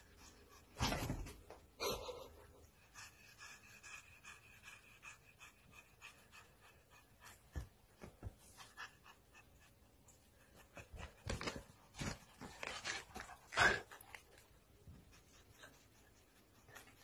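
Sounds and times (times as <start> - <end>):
pet panting: 1.8 - 17.0.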